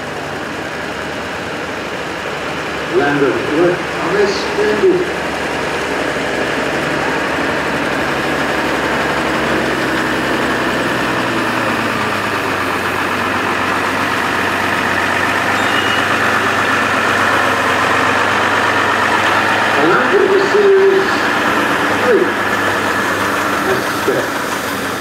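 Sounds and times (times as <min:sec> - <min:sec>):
lorry engine driving past: 0:00.0 - 0:25.0
other vehicle engines: 0:00.0 - 0:25.0.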